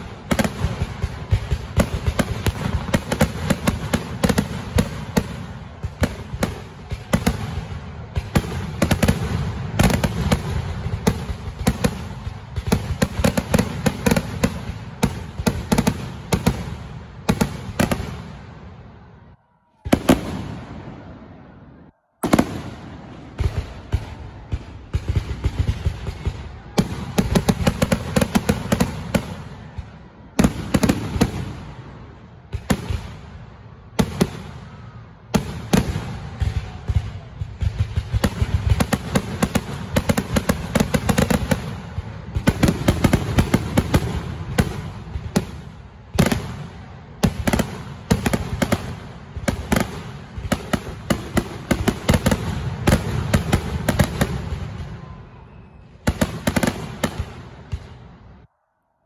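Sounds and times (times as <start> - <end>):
fireworks bangs and crackle: 0.0 - 58.5.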